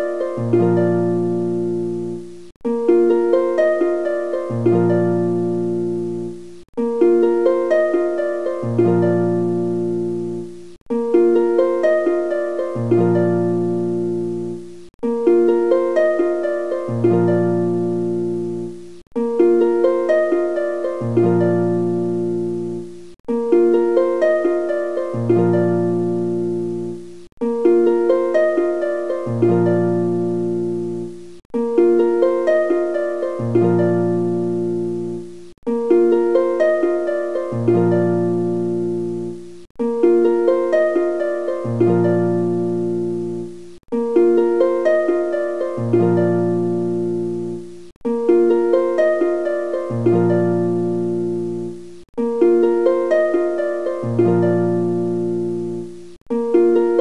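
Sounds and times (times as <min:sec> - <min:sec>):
plucked harp-like melody: 0:00.0 - 0:57.0.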